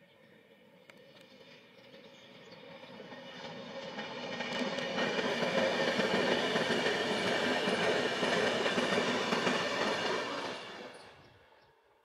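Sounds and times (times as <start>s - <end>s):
train wheels rushing on rails: 0.4s - 11.9s.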